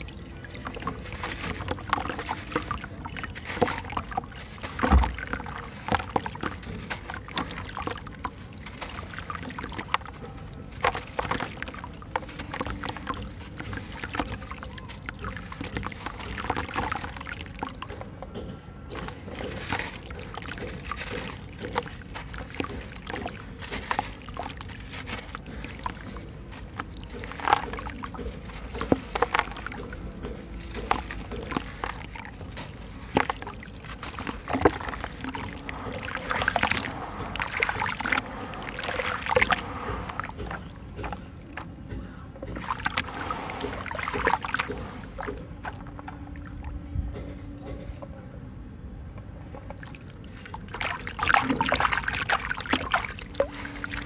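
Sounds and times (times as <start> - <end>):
sand pattering into water: 0.0 - 18.2, 18.9 - 46.8, 49.7 - 54.0.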